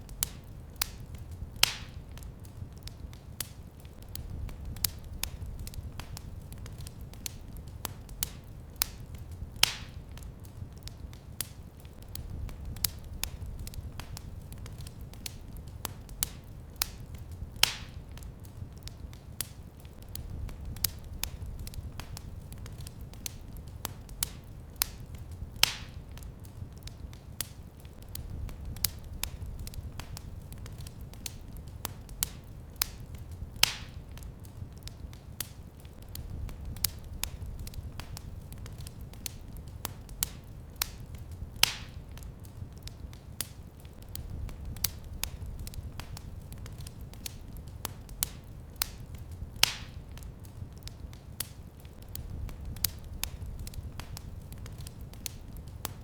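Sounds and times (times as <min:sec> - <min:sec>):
sharp snap of fire: 0:00.0 - 0:56.0
wood fire crackling: 0:00.0 - 0:56.0.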